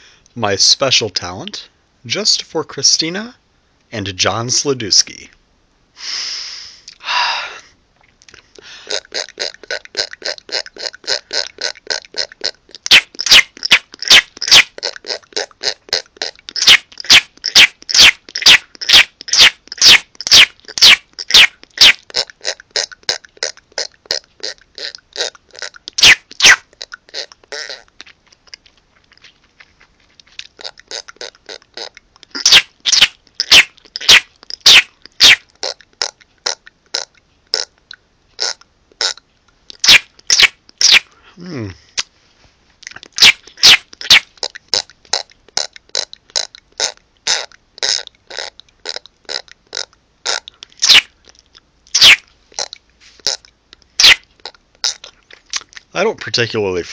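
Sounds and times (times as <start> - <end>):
mouth clicking noises: 6.8 - 7.1, 8.0 - 42.1, 42.8 - 56.5.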